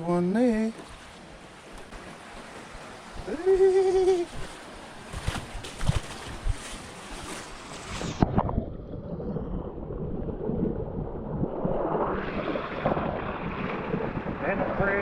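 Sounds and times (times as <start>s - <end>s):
surf washing: 0.0s - 15.0s
wind buffeting microphone: 1.8s - 15.0s.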